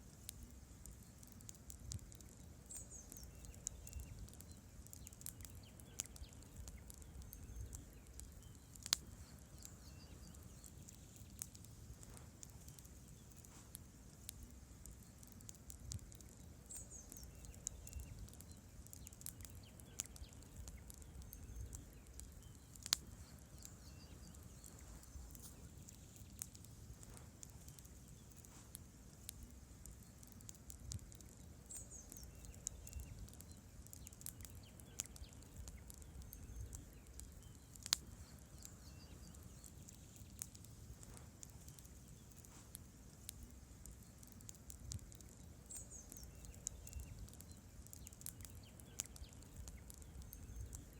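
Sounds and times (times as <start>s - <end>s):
logs crackling in campfire: 0.0s - 50.9s
low flame rumble: 0.0s - 50.9s
loud fire pops: 0.3s - 50.9s
faint high chirp: 2.2s - 13.7s, 15.9s - 28.7s, 31.2s - 42.7s, 45.2s - 50.9s.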